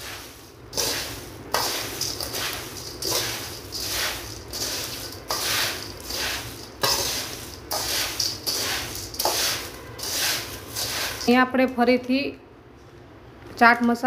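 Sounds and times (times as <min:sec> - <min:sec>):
spoon stirring dry puffed rice: 0:00.0 - 0:11.5.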